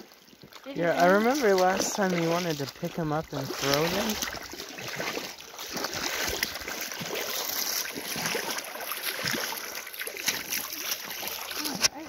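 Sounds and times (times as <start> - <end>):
river water splashing: 0.0 - 12.0
steady water rush: 0.0 - 12.0.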